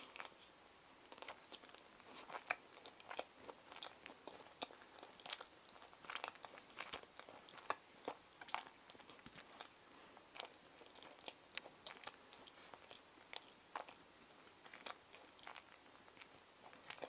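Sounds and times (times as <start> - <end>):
child chewing: 0.0 - 17.0.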